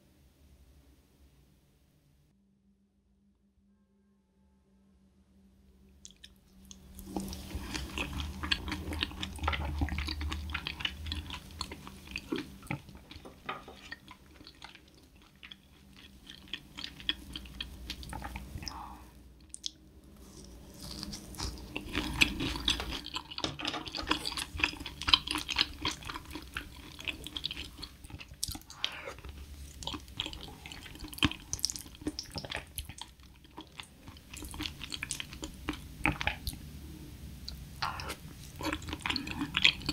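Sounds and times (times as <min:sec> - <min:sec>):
wet chewing and mouth sounds: 0:06.0 - 0:36.6, 0:37.5 - 0:39.9.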